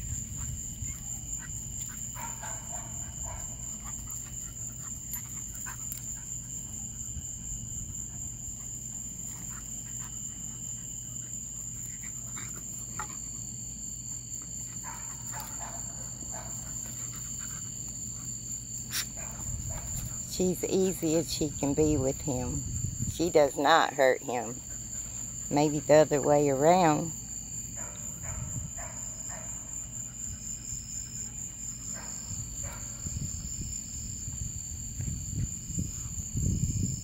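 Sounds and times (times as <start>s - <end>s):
night insects chorus: 0.0s - 37.0s.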